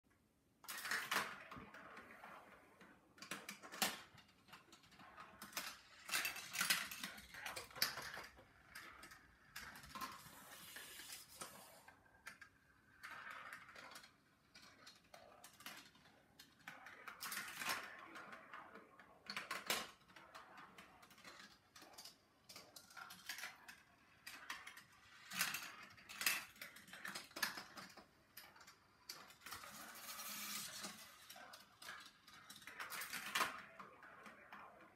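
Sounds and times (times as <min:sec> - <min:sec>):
marbles rattling on plastic tracks: 0:00.6 - 0:34.9.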